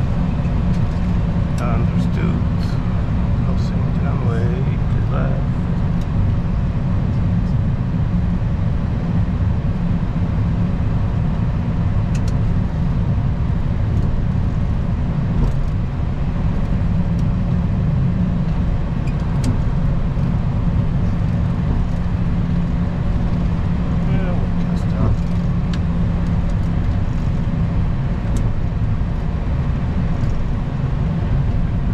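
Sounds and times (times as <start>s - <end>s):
low rumble in cockpit: 0.0s - 31.9s.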